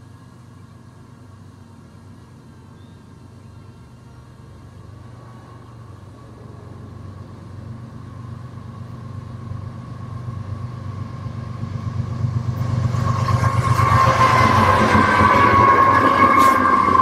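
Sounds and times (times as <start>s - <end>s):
diesel locomotive engines rumbling: 0.0s - 17.0s.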